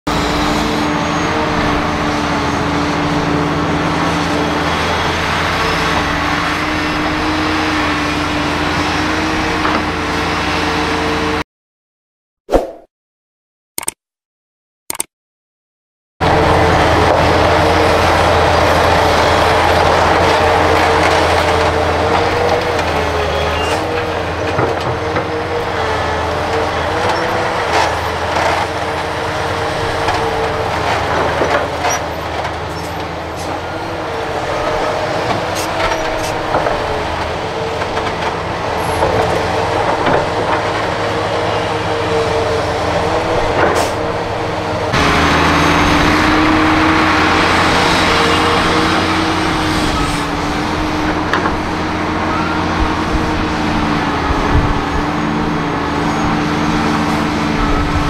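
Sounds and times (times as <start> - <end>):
excavator diesel engine whining: 0.1 - 11.4, 16.2 - 58.0.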